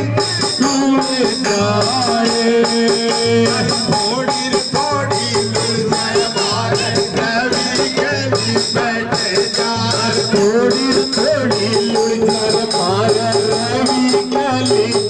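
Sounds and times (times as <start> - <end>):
frame drums beaten: 0.0 - 15.0
man singing: 0.0 - 15.0.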